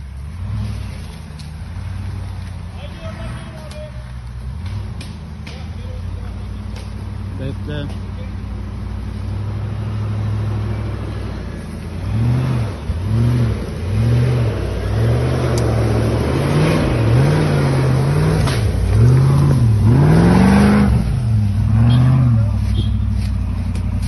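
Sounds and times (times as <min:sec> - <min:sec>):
engine revving: 0:00.0 - 0:24.0
truck crawling through undergrowth: 0:00.0 - 0:24.0.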